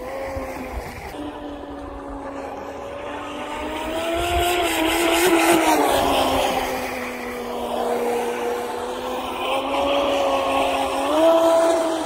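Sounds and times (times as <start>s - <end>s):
model speedboat motor whine: 0.0s - 12.0s
rush of spray: 0.0s - 12.0s.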